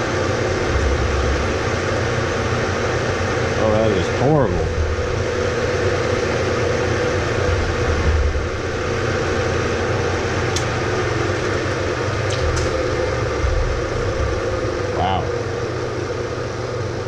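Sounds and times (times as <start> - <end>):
milling machine rumble: 0.0 - 17.0.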